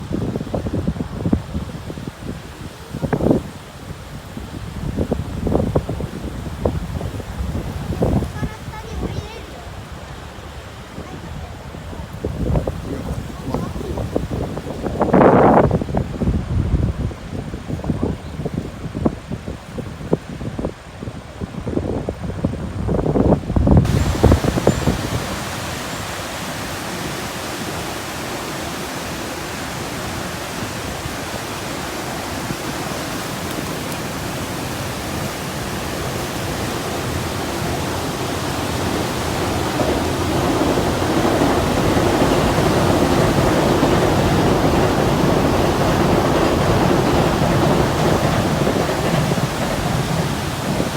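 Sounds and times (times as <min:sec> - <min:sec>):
rushing river roar: 0:00.0 - 0:50.9
wind buffeting microphone: 0:00.0 - 0:50.9.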